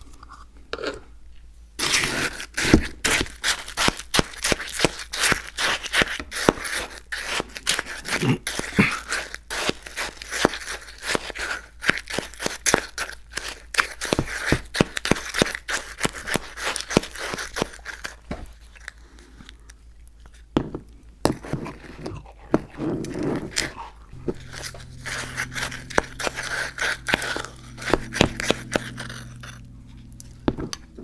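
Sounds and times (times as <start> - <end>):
chewing icy slush: 1.8 - 20.4, 21.3 - 30.4.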